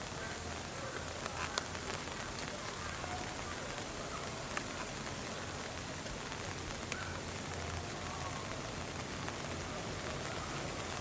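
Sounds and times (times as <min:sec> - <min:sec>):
rain falling on leaves: 0:00.0 - 0:11.0.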